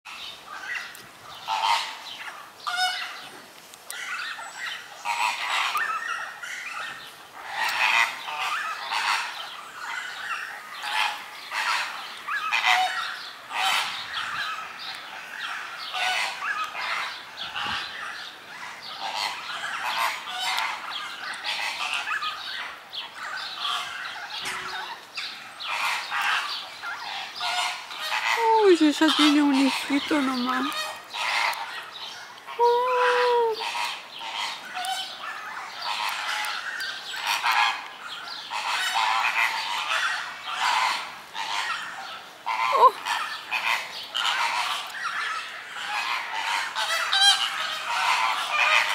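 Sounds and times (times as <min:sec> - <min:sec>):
flamingos honking: 0:00.5 - 0:03.2, 0:04.0 - 0:48.9.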